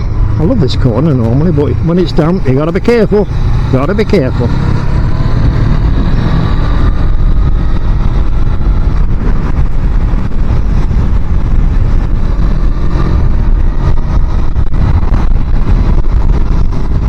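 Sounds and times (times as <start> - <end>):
motorcycle engine at high revs: 0.0 - 17.0
wind buffeting microphone: 0.0 - 17.0.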